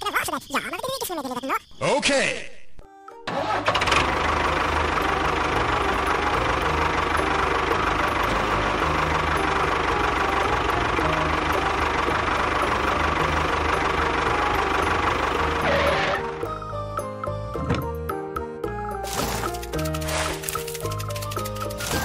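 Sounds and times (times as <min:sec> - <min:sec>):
tractor engine running: 0:03.3 - 0:18.2, 0:18.8 - 0:22.0.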